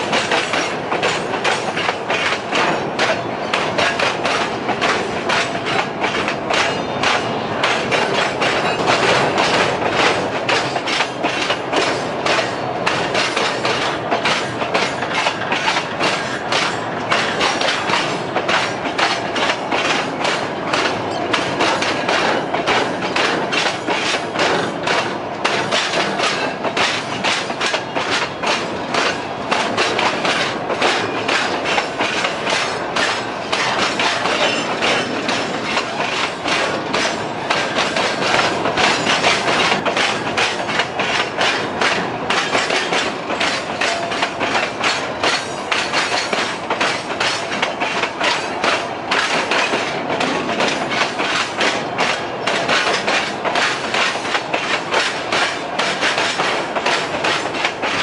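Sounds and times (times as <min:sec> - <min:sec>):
train wheels clacking over rail joints: 0:00.0 - 0:58.0.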